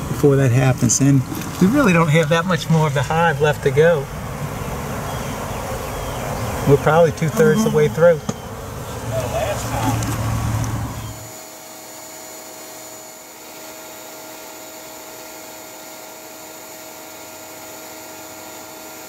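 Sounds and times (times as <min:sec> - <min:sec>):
honeybees buzzing: 0:00.0 - 0:19.0
machine hum with tones: 0:00.0 - 0:19.0.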